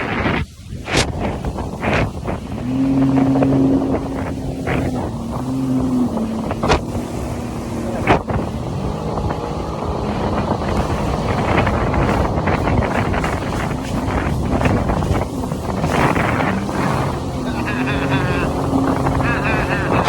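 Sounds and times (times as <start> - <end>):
jet ski engine running: 0.0 - 20.0
wind noise on microphone: 0.0 - 20.0.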